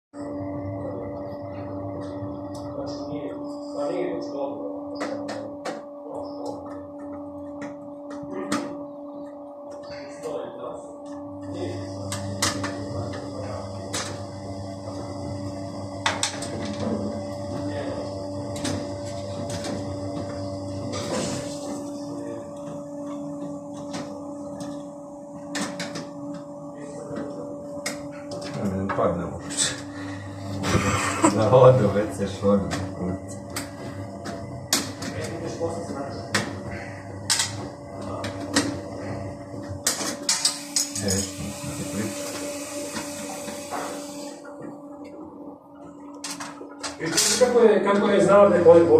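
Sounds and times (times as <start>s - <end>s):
steady low hum: 0.2s - 48.9s.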